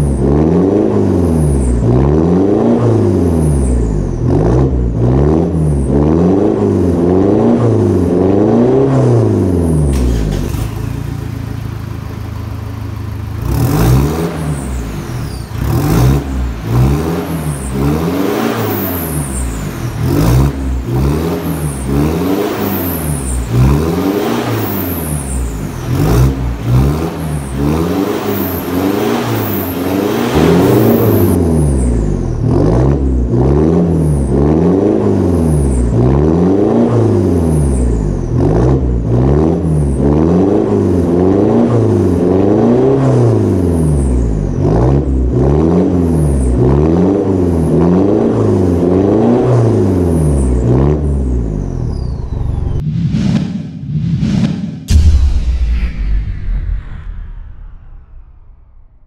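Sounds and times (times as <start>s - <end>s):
diesel engine revving: 0.0s - 52.8s.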